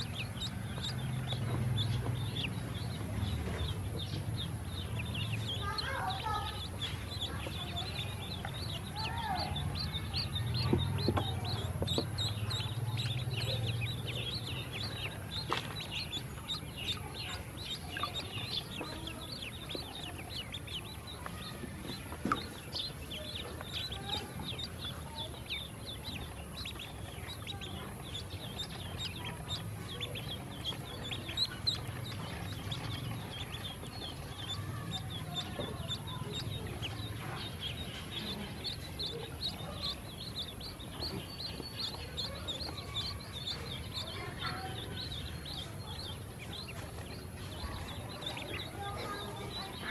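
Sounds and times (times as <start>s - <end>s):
ducklings peeping: 0.0s - 49.9s.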